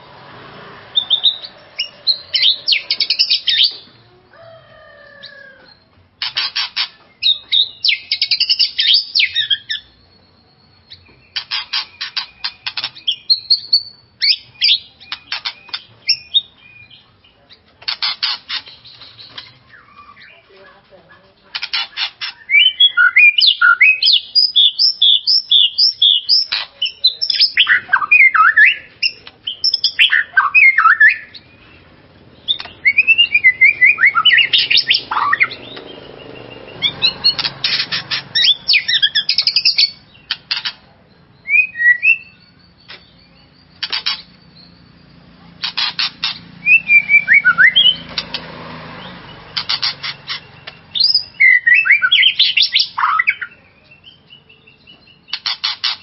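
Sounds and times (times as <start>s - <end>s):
songbird whistling and trilling: 0.9s - 3.9s, 5.1s - 17.1s, 18.0s - 20.4s, 22.0s - 48.2s, 49.0s - 56.0s.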